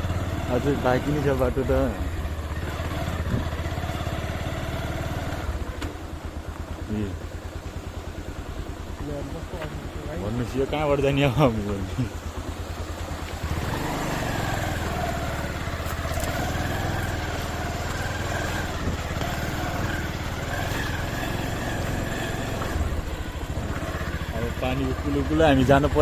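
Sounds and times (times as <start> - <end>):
motorcycle engine idling and pulling away: 0.0 - 26.0.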